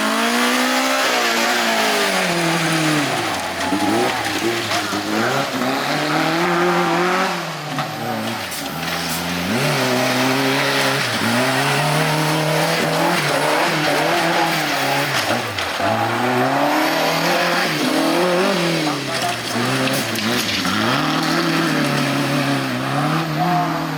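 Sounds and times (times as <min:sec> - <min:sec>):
vehicle engine revving hard: 0:00.0 - 0:23.9.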